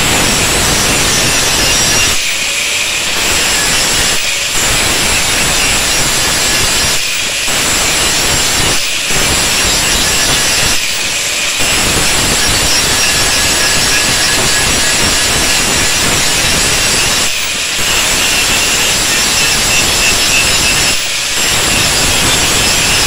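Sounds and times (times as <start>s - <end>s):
angle grinder cutting steel: 0.0s - 23.0s.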